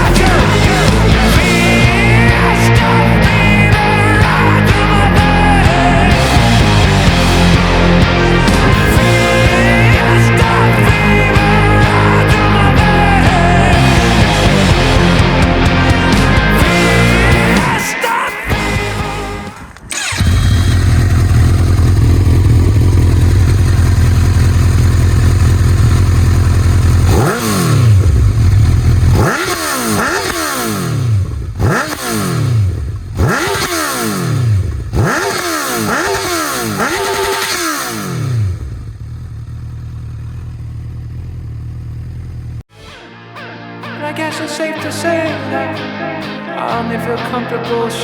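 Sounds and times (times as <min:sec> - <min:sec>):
motorcycle engine idling and revving: 0:00.0 - 0:17.8, 0:18.5 - 0:42.7.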